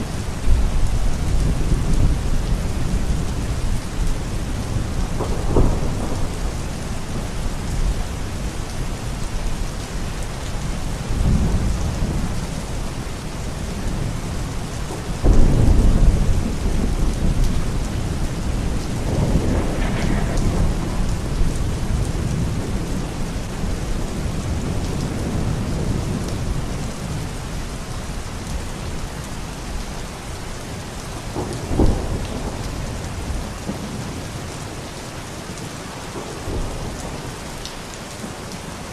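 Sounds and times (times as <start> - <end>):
thunder rumbling: 0.0 - 10.2, 10.9 - 34.8, 35.5 - 37.6
heavy rain: 0.0 - 38.9.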